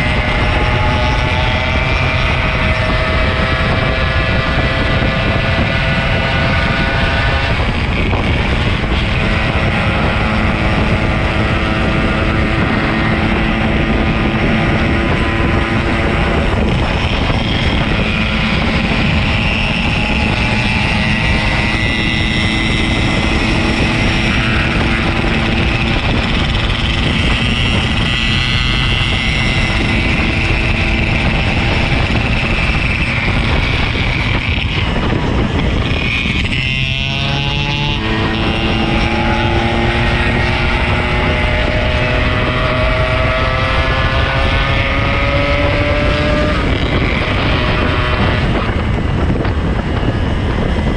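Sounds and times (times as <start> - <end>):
two-stroke motorcycle engine running: 0.0 - 50.9
wind noise on microphone: 0.0 - 50.9.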